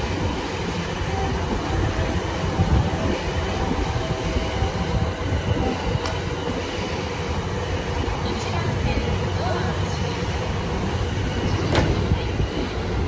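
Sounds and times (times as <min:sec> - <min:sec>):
train equipment low rumble: 0:00.0 - 0:13.0.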